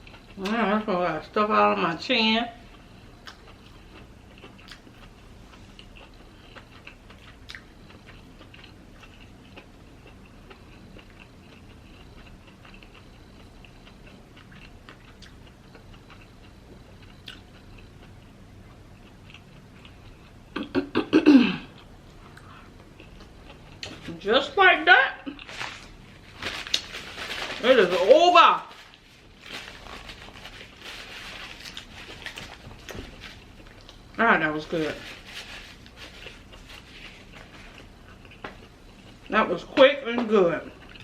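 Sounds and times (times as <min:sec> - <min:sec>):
chewing food: 0:00.0 - 0:00.8, 0:02.6 - 0:20.8, 0:21.6 - 0:24.2, 0:25.2 - 0:39.8, 0:40.7 - 0:41.0.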